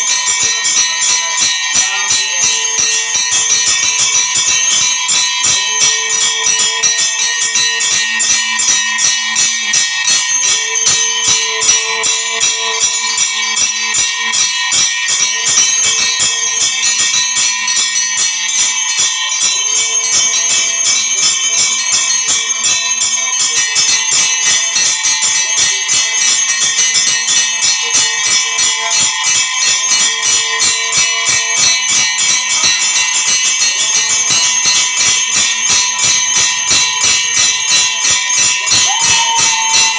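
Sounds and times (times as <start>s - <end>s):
bells ringing rapidly: 0.0s - 39.9s.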